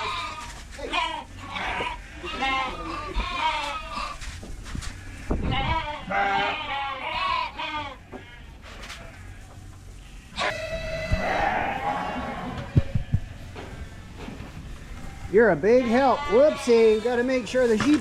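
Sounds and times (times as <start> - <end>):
sheep bleating: 0.0 - 4.2, 5.3 - 9.4, 10.2 - 14.1, 15.0 - 17.6.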